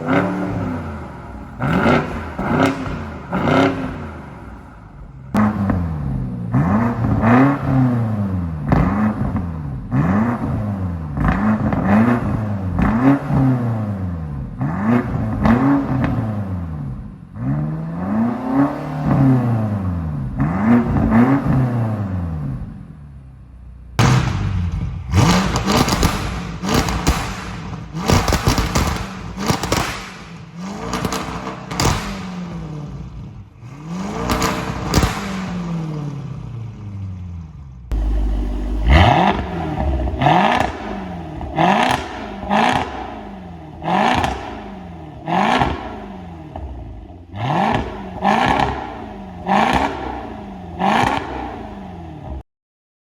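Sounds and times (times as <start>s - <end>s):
car engine revving: 0.0s - 22.6s, 24.7s - 52.4s.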